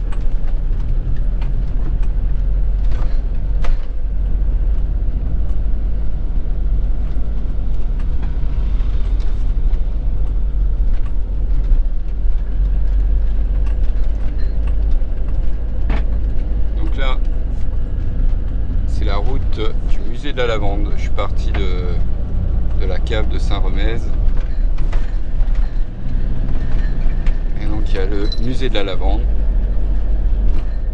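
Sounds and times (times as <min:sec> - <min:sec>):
vehicle engine and road rumble: 0:00.0 - 0:30.9.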